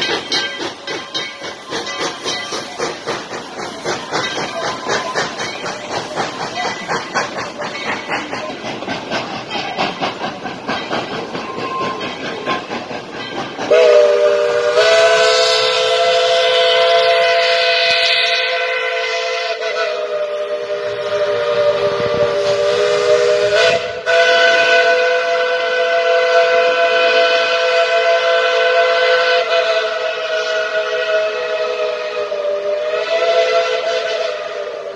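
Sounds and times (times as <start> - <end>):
steam locomotive chime whistle: 0.0 - 8.7, 9.4 - 34.9
train rhythmic running noise: 0.0 - 34.9.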